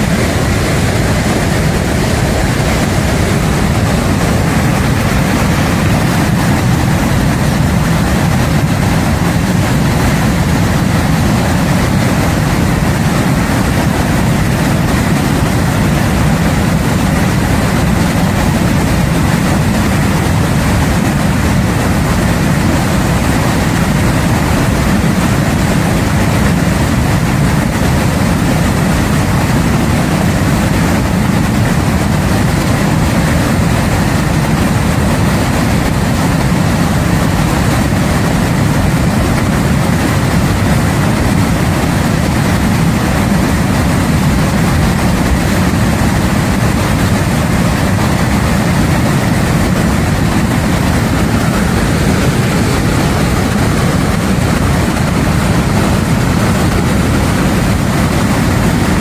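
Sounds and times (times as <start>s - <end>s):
torrent of water rushing: 0.0s - 59.0s.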